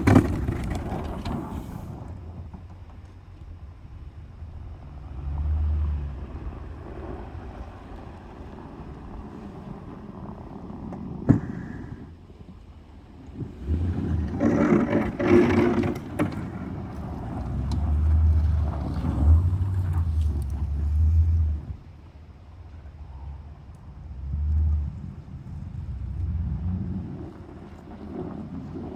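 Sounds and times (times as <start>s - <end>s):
pickup engine surging: 0.0s - 28.9s.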